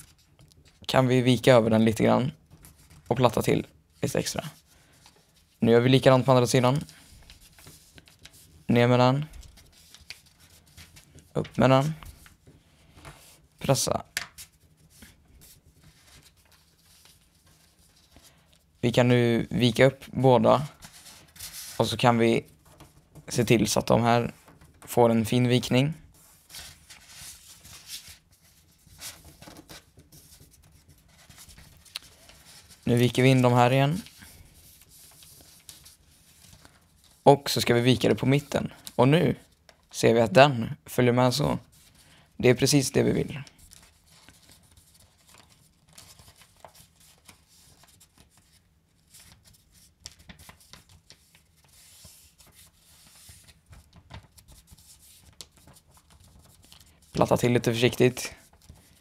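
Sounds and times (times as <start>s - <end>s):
paper rustling and creasing: 6.2s - 18.8s, 20.6s - 39.9s, 43.0s - 59.0s.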